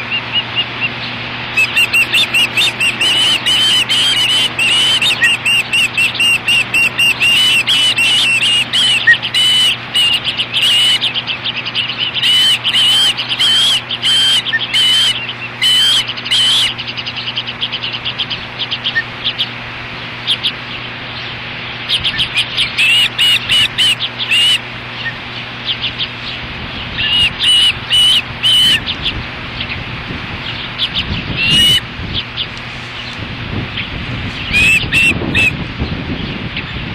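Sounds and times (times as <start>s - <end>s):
low steady hum: 0.0s - 36.9s
ospreys chirping: 0.0s - 36.9s.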